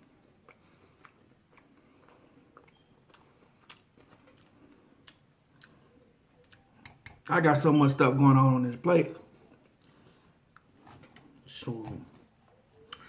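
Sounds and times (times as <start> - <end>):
man chewing food: 0.0 - 7.3, 9.2 - 13.0.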